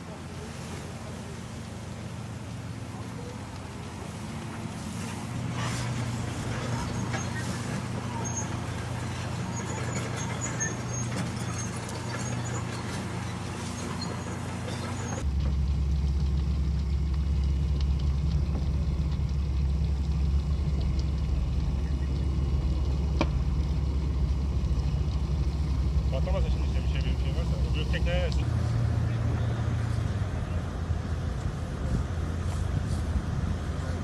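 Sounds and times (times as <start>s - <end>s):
deep engine drone: 0.0s - 34.0s
diesel engine rumbling: 0.0s - 34.0s.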